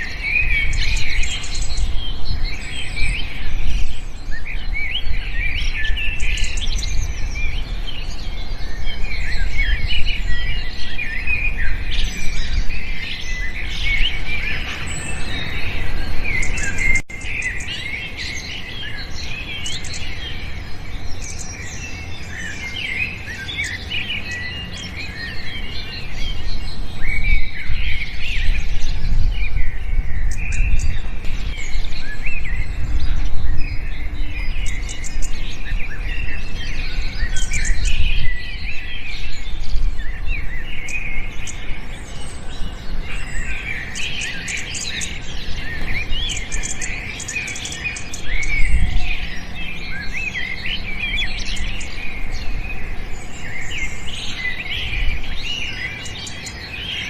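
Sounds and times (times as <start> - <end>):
chorus of small birds chirping: 0.0 - 57.0.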